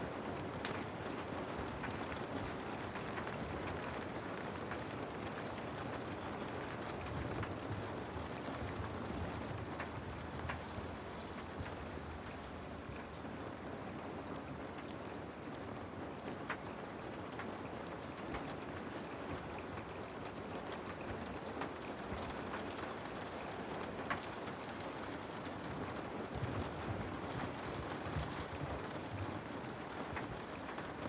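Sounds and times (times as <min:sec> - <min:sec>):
raindrops ticking on a surface: 0:00.0 - 0:31.0
steady rain: 0:00.0 - 0:31.0.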